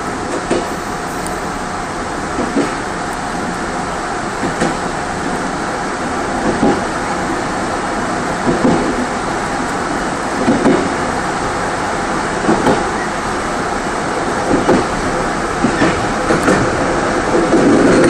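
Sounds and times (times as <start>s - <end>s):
train wheels rumbling: 0.0s - 18.0s
wheels clacking over rail joints: 0.0s - 18.0s.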